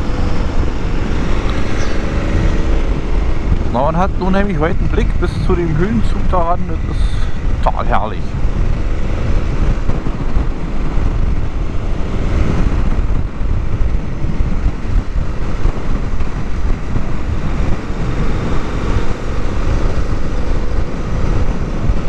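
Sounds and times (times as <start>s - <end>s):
motorcycle engine: 0.0s - 22.0s
wind buffeting microphone: 0.0s - 22.0s.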